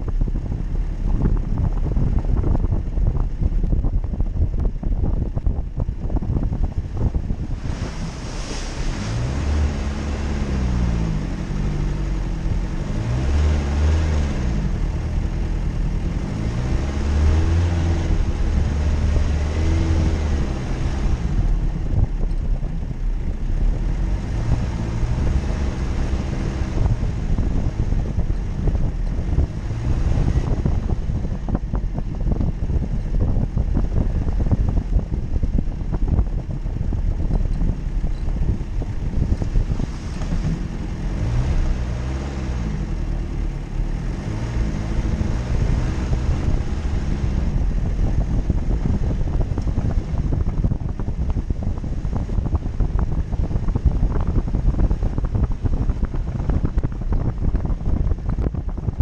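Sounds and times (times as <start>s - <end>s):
wind buffeting microphone: 0.0s - 59.0s
engine revving: 6.9s - 58.9s.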